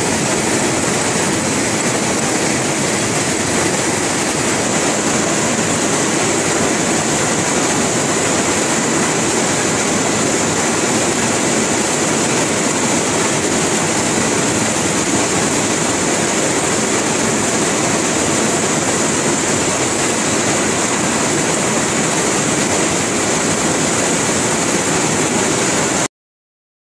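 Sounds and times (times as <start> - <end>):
machine running with hiss: 0.0 - 26.1.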